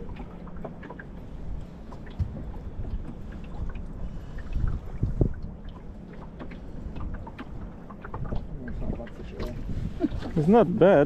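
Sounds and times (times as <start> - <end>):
water slapping against boat hull: 0.0 - 11.0.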